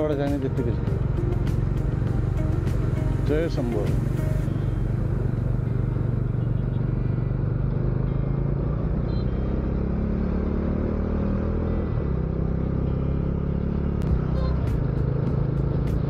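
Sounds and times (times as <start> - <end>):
motorcycle engine running: 0.0 - 16.0
road noise: 0.0 - 16.0.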